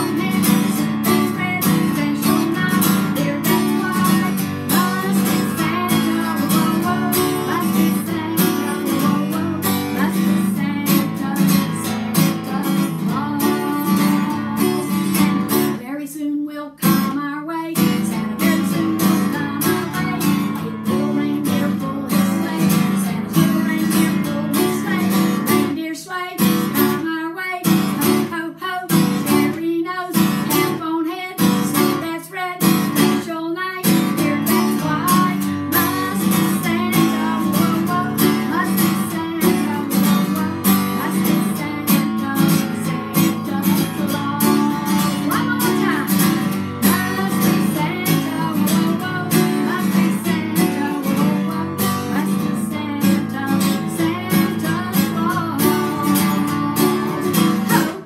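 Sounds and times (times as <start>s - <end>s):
acoustic guitar strumming chords: 0.0s - 16.0s, 17.8s - 25.8s, 26.4s - 29.6s, 30.2s - 58.0s
woman singing: 0.0s - 58.0s.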